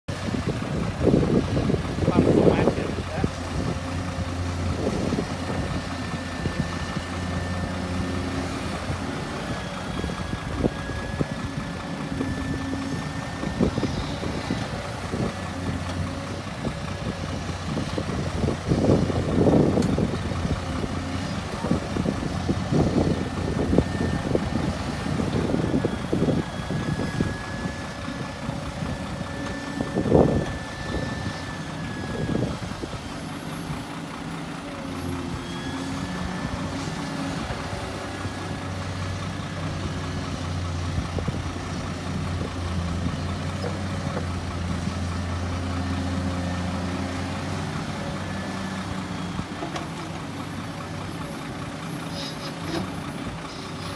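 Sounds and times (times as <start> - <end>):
diesel engine running: 0.1 - 53.9.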